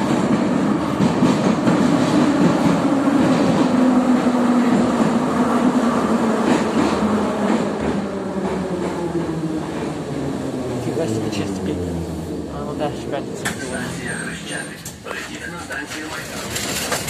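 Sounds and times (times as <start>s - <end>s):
train wheels on rails: 0.0s - 12.0s, 12.6s - 17.0s.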